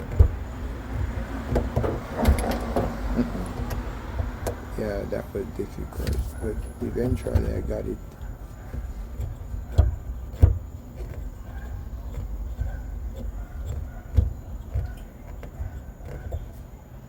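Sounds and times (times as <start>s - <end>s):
wrench and plumbing fittings knocking: 0.0s - 16.5s
low steady rumble: 0.0s - 17.0s.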